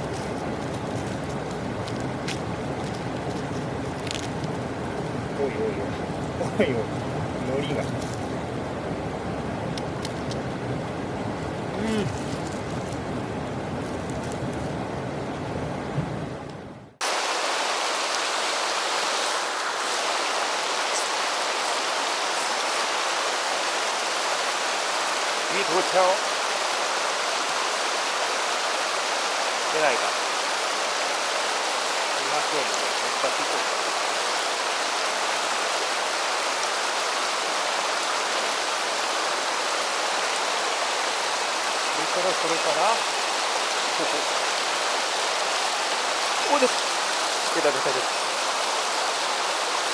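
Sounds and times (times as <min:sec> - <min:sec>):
mountain stream rushing: 0:00.0 - 0:14.8, 0:17.0 - 0:49.9.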